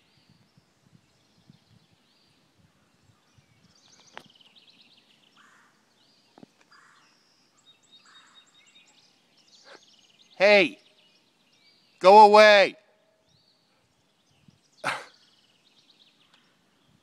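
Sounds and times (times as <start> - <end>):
faint small birds chirping: 0.0 - 17.0.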